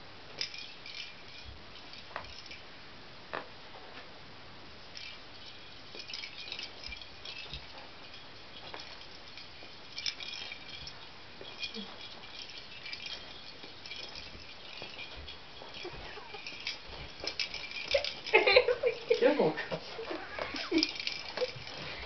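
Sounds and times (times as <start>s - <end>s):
plastic toy ball jingling: 0.4s - 2.6s, 4.8s - 22.0s.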